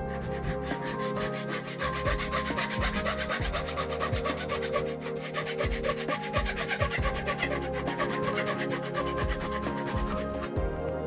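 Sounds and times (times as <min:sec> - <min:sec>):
hand saw cutting wood: 0:00.0 - 0:10.6
background music: 0:00.0 - 0:11.0.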